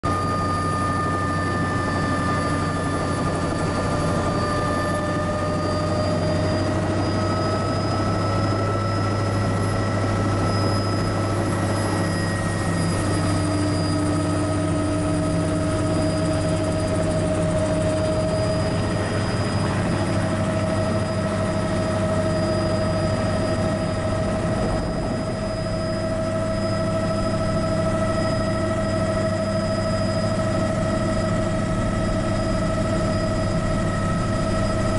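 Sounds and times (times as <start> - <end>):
helicopter engine and rotors: 0.0 - 34.9
turbine whine: 0.0 - 34.9.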